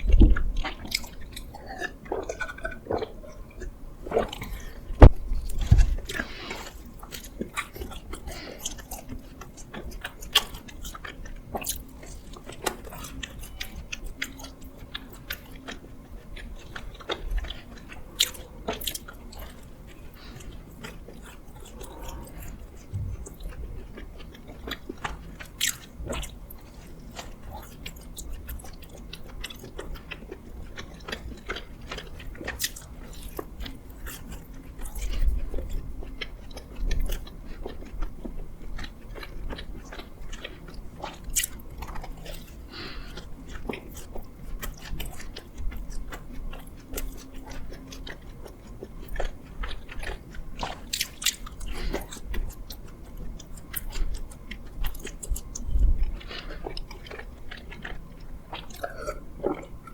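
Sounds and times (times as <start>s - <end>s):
person chewing with wet smacks: 0.0s - 59.9s.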